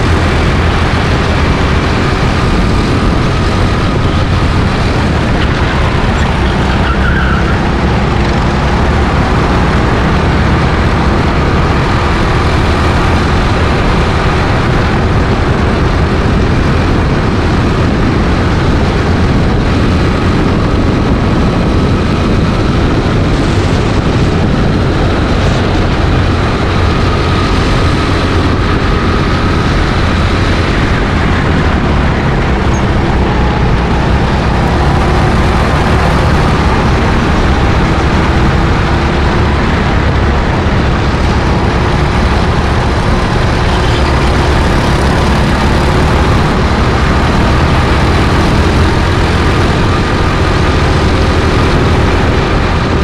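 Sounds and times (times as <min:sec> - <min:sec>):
rushing wind noise: 0:00.0 - 0:53.0.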